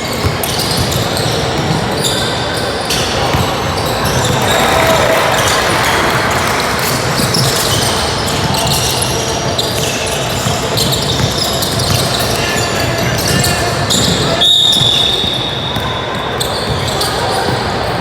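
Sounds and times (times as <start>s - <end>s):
basketballs bouncing on gym floor: 0.0s - 2.3s, 2.9s - 18.0s
echoing crowd chatter: 0.0s - 18.0s.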